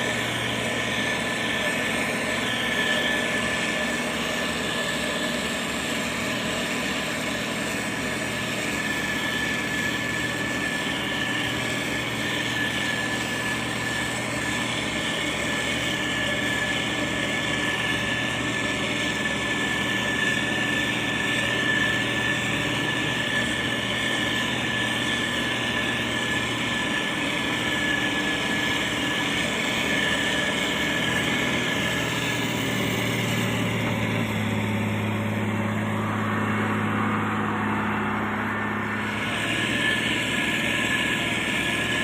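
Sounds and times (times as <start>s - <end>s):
diesel engine running: 0.0s - 42.0s
high whine: 0.0s - 42.0s.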